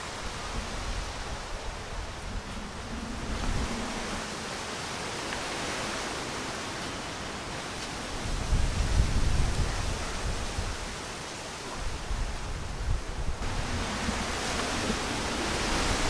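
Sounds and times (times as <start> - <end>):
wind gust buffeting microphone: 0.0 - 11.0, 11.7 - 16.0
wind rustling tree leaves: 0.0 - 16.0.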